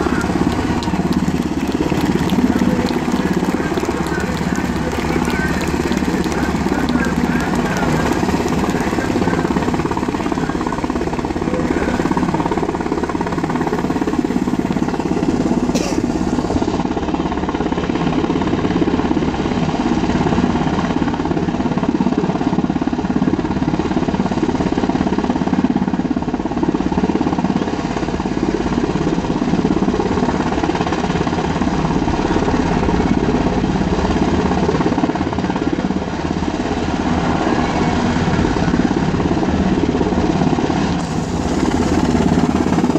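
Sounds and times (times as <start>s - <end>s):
helicopter rotors chopping: 0.0s - 42.9s.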